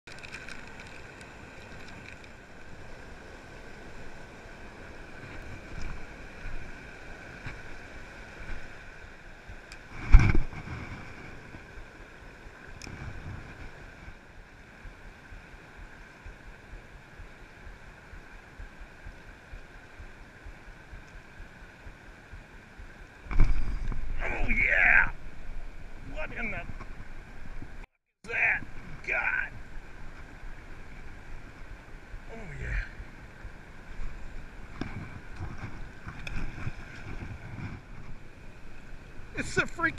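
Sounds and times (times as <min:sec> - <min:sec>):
fast river water rushing: 0:00.1 - 0:39.9
wind on microphone: 0:04.0 - 0:27.8, 0:28.5 - 0:39.4.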